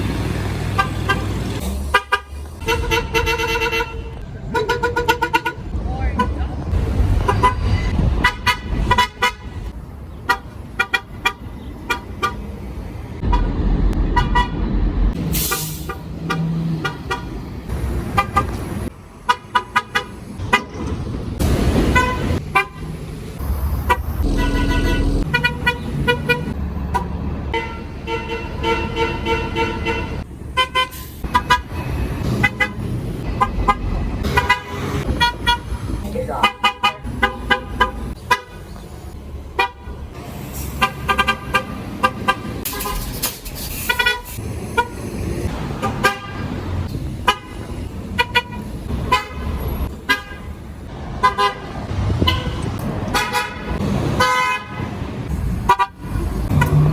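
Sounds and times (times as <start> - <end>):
bus horns honking: 0.0 - 14.6, 15.2 - 56.9
bus engines rumbling: 0.0 - 56.9
street traffic: 0.0 - 56.9.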